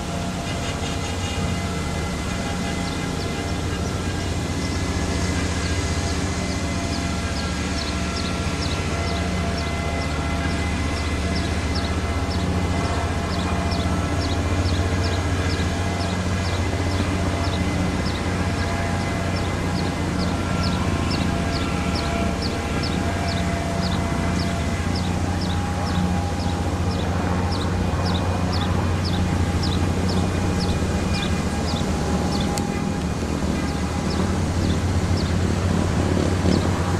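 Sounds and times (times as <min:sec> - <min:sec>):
motor droning: 0:00.0 - 0:36.9.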